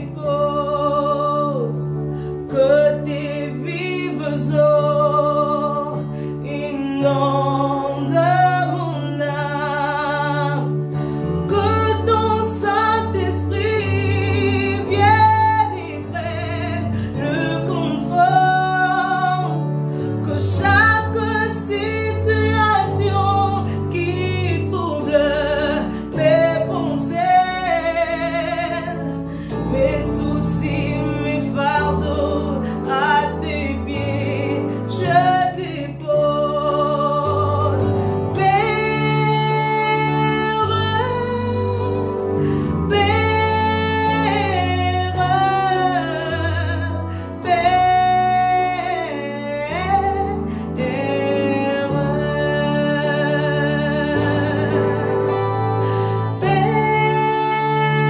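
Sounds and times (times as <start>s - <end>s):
low accompaniment chords: 0.0s - 58.0s
woman singing gospel song: 0.0s - 58.0s.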